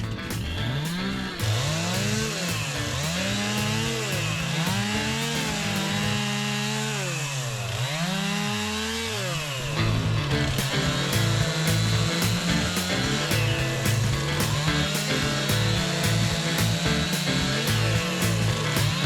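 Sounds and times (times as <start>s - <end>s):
chainsaws cutting wood: 0.4s - 19.0s.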